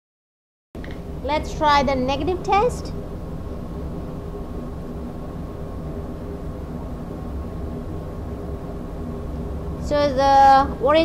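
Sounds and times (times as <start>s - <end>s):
machinery rumble and hum: 0.8s - 11.0s
faint steady tones: 1.0s - 11.0s.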